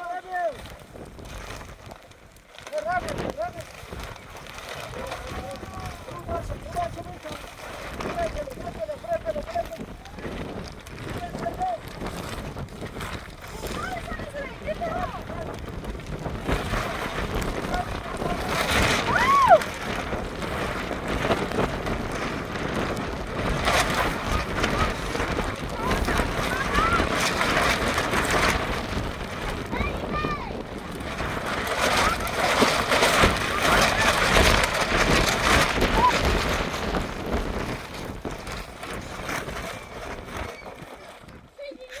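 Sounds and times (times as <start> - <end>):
rain: 0.0 - 8.4, 11.8 - 39.4
wind buffeting microphone: 0.0 - 42.0.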